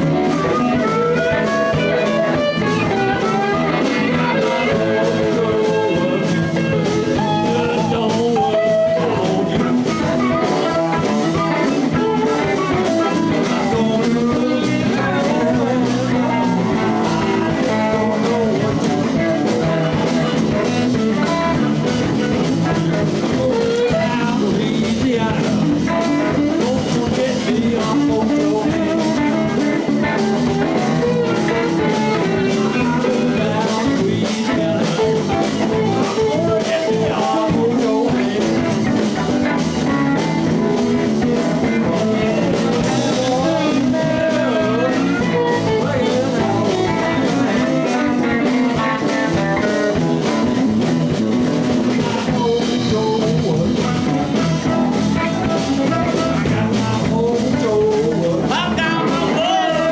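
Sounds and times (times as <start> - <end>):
bass: 0.0 - 59.9
drum kit beat: 0.0 - 59.9
electric guitar: 0.0 - 59.9.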